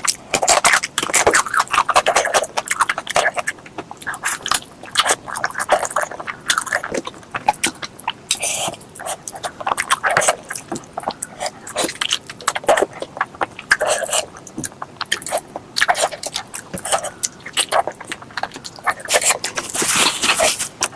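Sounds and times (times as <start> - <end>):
person chewing and smacking food: 0.0 - 20.9.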